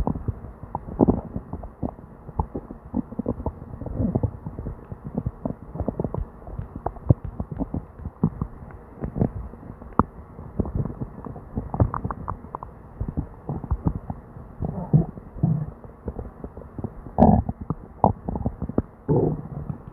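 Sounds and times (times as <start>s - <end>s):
stomach gurgling: 0.0s - 19.9s.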